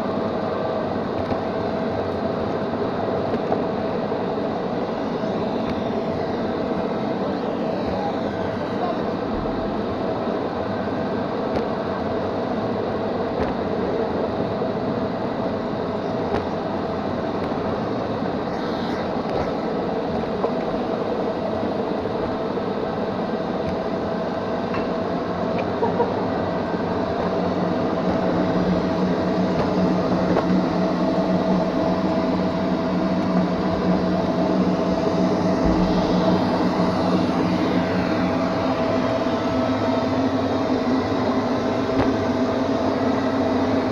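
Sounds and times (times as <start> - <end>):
robot vacuum humming: 2.1 - 11.5, 13.7 - 43.9.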